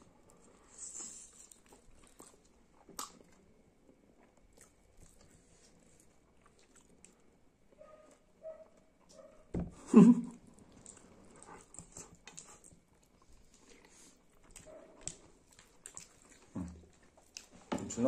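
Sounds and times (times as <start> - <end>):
soft chewing: 0.0 - 18.0.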